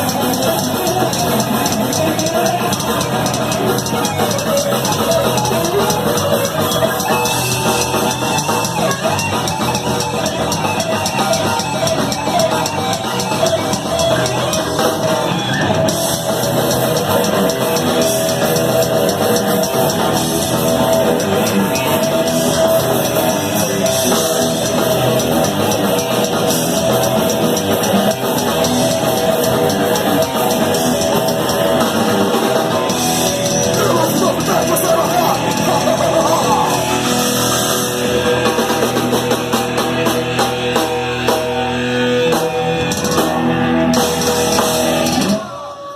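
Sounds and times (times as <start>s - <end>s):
drum kit: 0.0s - 45.9s
electric guitars: 0.0s - 45.9s
metal band playing live: 0.0s - 45.9s.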